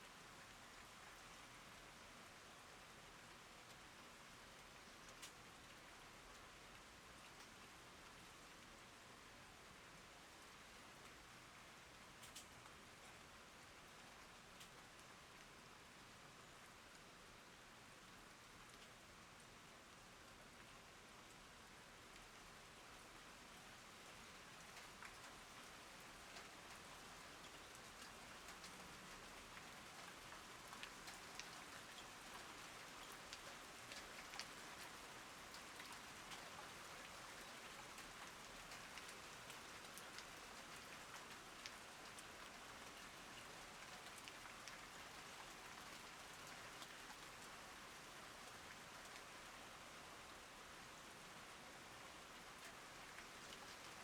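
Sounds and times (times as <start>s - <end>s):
soft steady rain: 0.0s - 54.0s
raindrops ticking close by: 0.1s - 54.0s.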